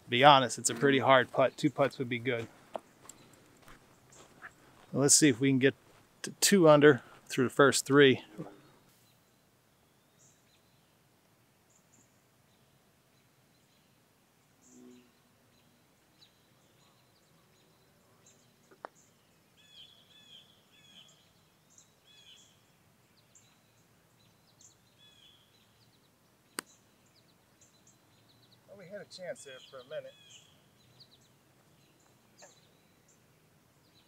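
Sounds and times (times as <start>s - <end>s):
birds chirping: 0.0s - 11.0s, 11.7s - 34.0s.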